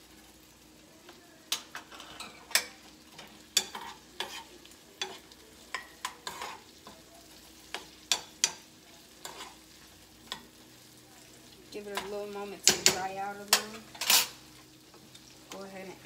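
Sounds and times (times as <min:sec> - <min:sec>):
faint pan sizzle: 0:00.0 - 0:16.0
fork scraping a skillet: 0:01.1 - 0:10.6, 0:11.9 - 0:15.6.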